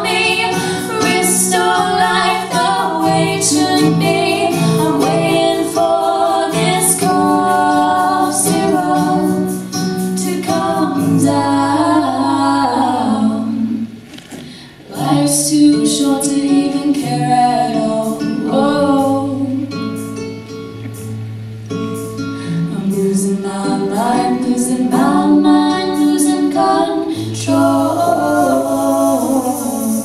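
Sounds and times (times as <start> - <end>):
women singing in harmony: 0.0 - 14.0, 14.8 - 19.8, 22.6 - 30.0
acoustic guitar: 0.0 - 30.0.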